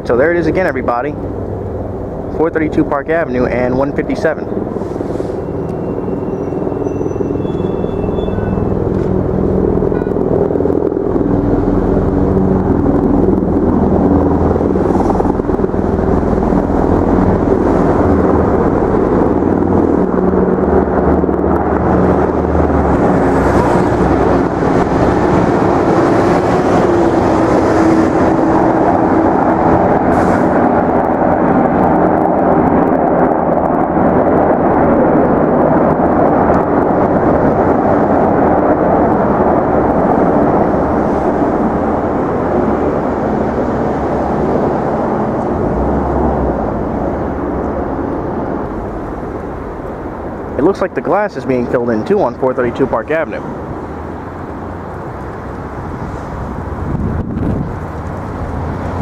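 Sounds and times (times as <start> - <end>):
engine rumble: 0.0 - 59.0.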